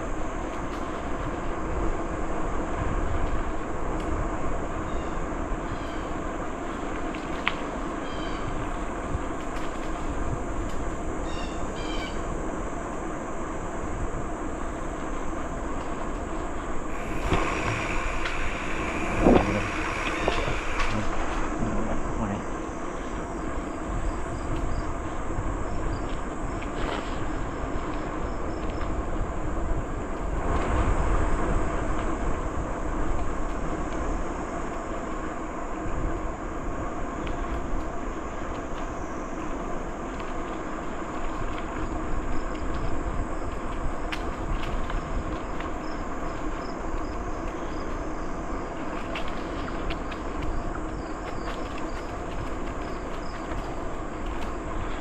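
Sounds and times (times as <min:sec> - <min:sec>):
bicycle tyres rolling on trail: 0:00.0 - 0:55.0
wind on microphone: 0:00.0 - 0:55.0.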